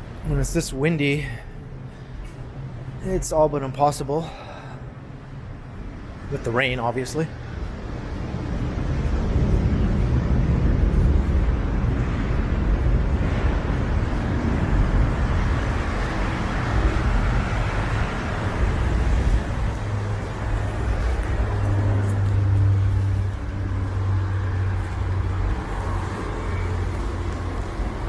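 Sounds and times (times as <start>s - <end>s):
low engine drone: 0.0s - 28.0s
road traffic passing: 0.0s - 28.0s
wind rumble on microphone: 4.8s - 28.0s.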